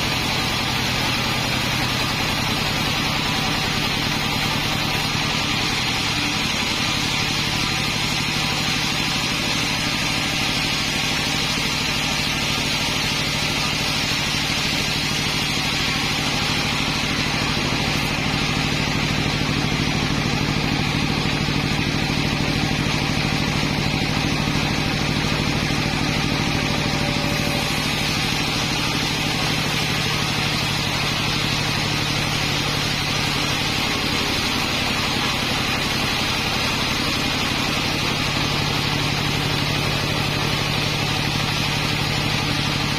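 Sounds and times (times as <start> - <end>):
engine-driven sawmill running: 0.0 - 42.9.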